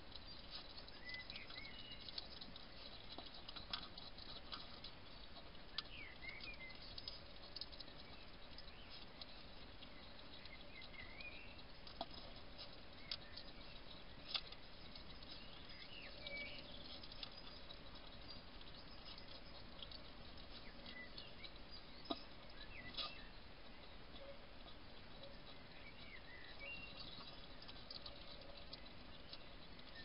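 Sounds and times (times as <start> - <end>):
hedgehog chewing and lapping: 0.0 - 30.0.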